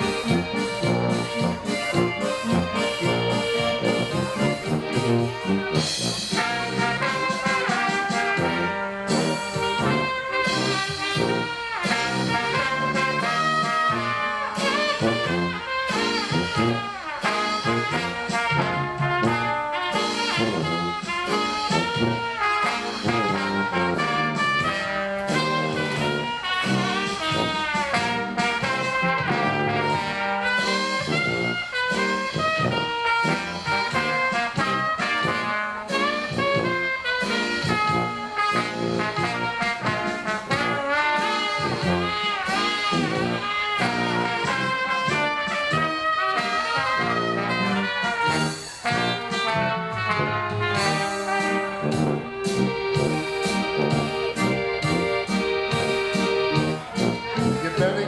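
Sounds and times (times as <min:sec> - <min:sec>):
oompah brass band music: 0:00.0 - 0:58.0.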